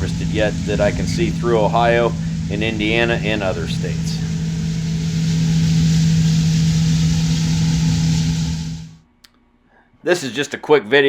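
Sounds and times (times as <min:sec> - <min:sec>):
dense mechanical rush: 0:00.0 - 0:09.0
diesel engine running steadily: 0:00.0 - 0:09.0.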